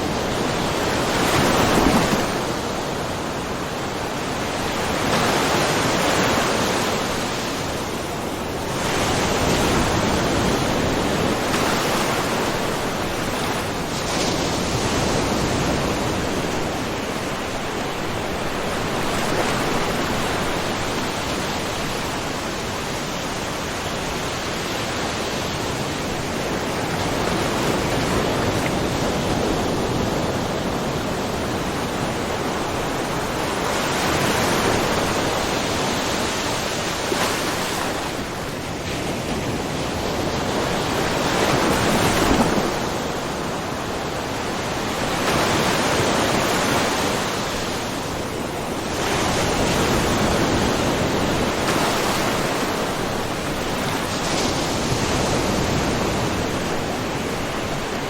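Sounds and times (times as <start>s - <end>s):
small ocean waves splashing: 0.0s - 58.0s.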